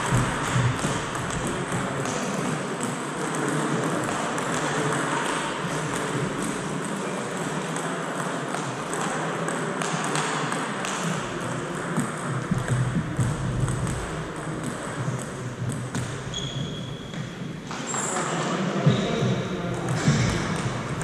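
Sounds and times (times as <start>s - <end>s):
murmur of voices: 0.0s - 21.0s.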